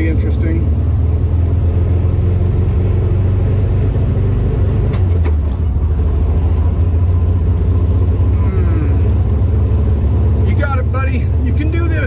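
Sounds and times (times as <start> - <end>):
car engine running rough: 0.0 - 12.0.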